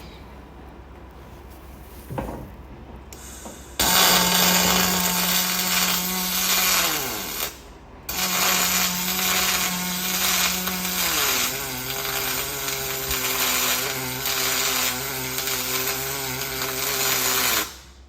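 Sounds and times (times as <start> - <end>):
welder buzzing crackle: 3.2 - 18.0.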